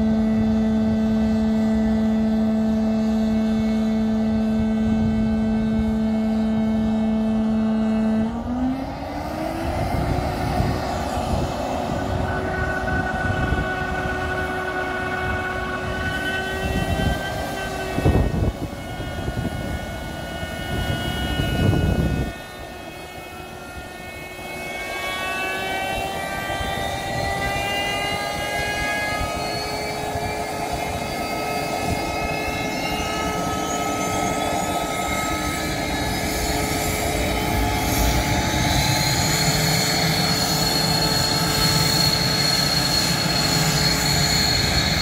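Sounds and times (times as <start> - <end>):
jet engine whine: 0.0 - 45.0
low engine surges: 0.0 - 45.0
rushing noise: 7.8 - 45.0.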